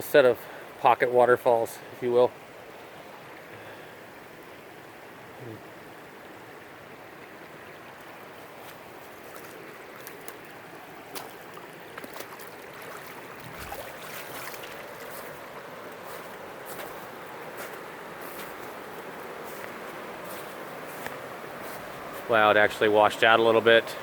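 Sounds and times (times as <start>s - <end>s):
water rushing over small waterfalls: 0.0s - 24.0s.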